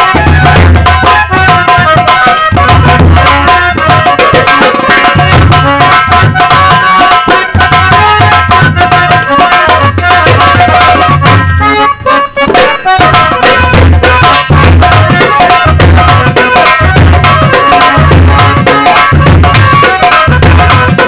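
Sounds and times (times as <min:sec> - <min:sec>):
fast drumming with heavy bass: 0:00.0 - 0:11.6, 0:12.5 - 0:21.0
harmonium melody: 0:00.0 - 0:21.0.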